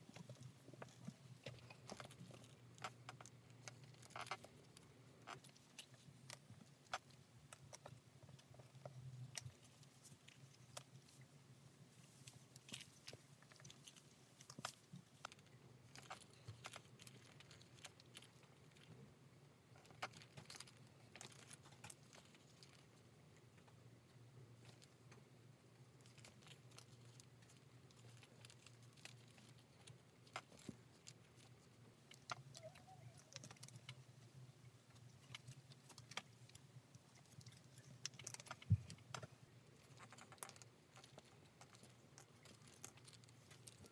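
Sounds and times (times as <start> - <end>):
faint low hum: 0.0 - 43.9
hand-stitching clicks and rustles: 0.0 - 43.9.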